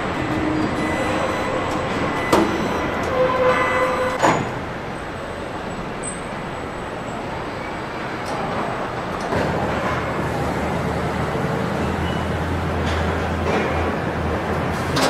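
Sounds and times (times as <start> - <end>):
assembly line machinery noise: 0.0 - 15.0.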